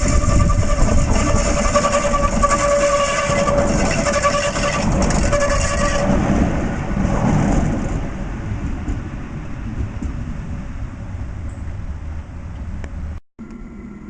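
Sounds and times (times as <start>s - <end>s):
tram rumble: 0.0s - 14.0s
tram whine: 0.0s - 14.0s.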